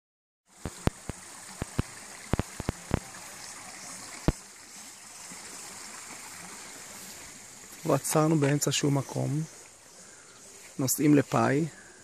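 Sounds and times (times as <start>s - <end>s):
steady outdoor hiss: 0.5s - 12.0s.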